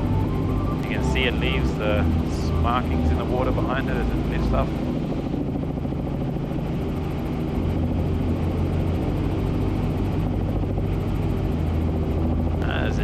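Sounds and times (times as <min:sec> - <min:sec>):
helicopter drone inside cabin: 0:00.0 - 0:13.0.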